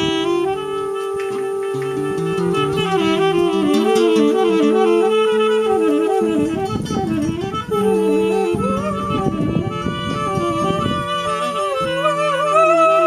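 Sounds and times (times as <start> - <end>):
guitar strumming: 0.0 - 13.0
saxophone playing: 0.0 - 13.0.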